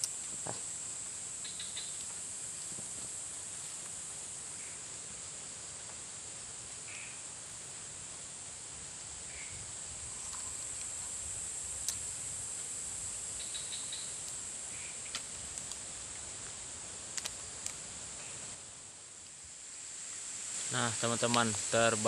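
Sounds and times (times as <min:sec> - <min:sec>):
insect chorus drone: 0:00.0 - 0:22.0.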